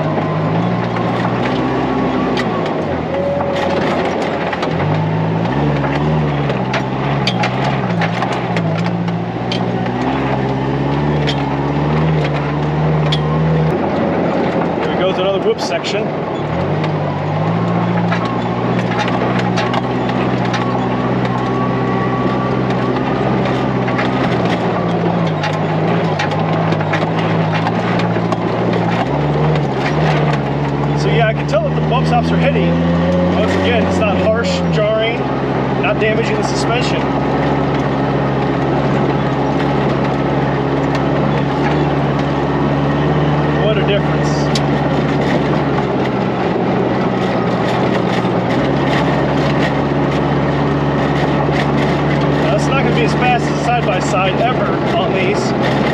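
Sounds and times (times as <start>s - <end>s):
buggy engine running: 0.0s - 55.9s
chassis knocks and rattles: 0.0s - 55.9s
road and wind noise: 0.0s - 55.9s.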